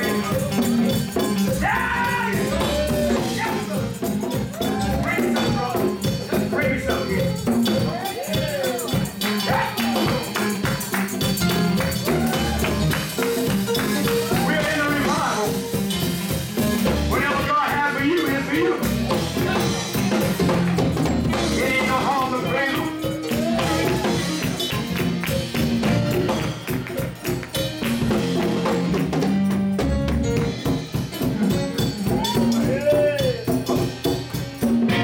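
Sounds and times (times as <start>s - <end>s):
gospel band playing: 0.0s - 35.0s
tambourine: 0.0s - 35.0s.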